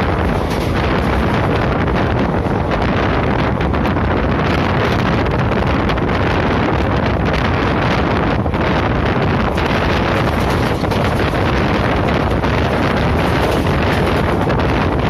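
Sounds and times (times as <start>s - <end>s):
train running on track: 0.0s - 15.0s
wind buffeting microphone: 0.0s - 15.0s.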